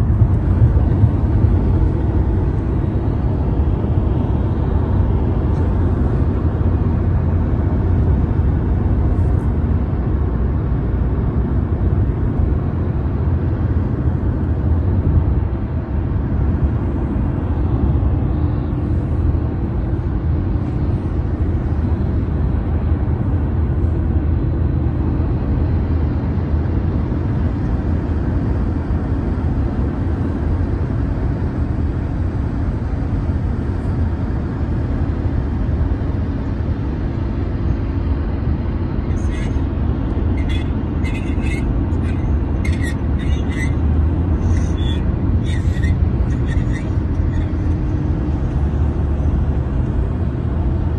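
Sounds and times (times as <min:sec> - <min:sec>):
car road and engine rumble: 0:00.0 - 0:50.9.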